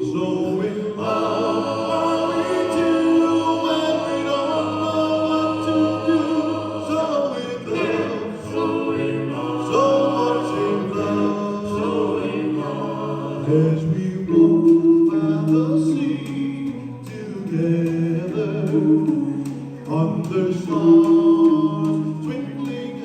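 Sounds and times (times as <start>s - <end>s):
vocal group singing close harmony: 0.0s - 23.0s.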